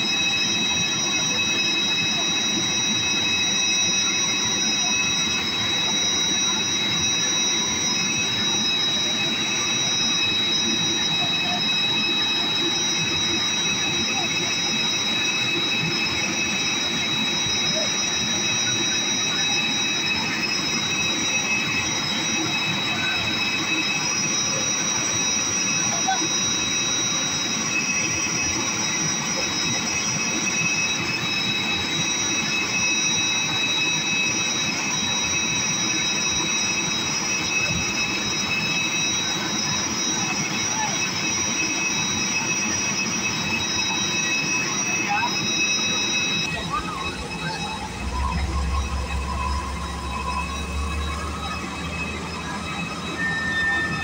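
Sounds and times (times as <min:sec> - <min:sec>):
aircraft auxiliary power unit running: 0:00.0 - 0:54.0.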